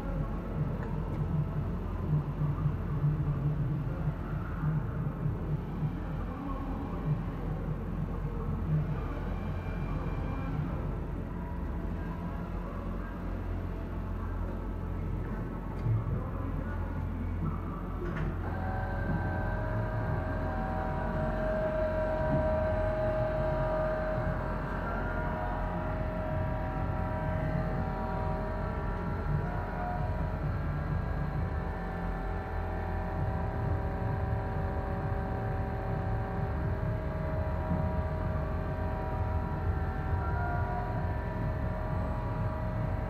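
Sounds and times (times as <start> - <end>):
drive motor whine: 0.0 - 43.0
lathe humming: 4.9 - 43.0.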